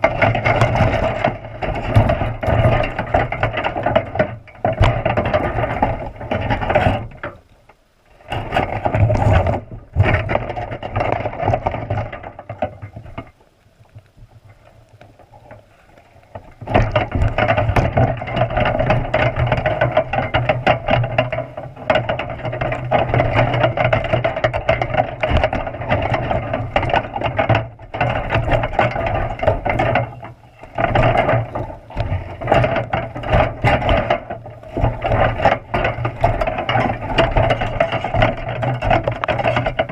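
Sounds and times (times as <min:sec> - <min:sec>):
crab trap rattling underwater: 0:00.0 - 0:39.9.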